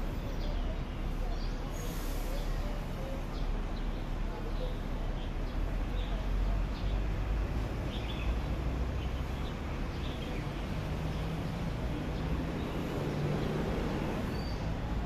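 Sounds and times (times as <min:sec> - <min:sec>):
low hum of traffic: 0:00.0 - 0:15.0.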